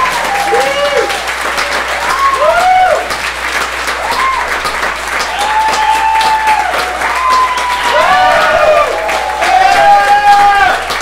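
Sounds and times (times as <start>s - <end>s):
audience applauding: 0.0s - 11.0s
people cheering and whooping: 0.0s - 11.0s.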